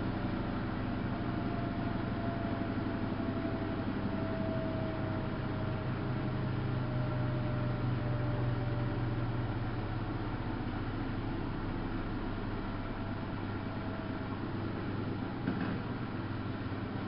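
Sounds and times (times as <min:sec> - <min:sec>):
faint motor whine: 0:00.0 - 0:17.0
washing machine motor hum: 0:00.0 - 0:17.0.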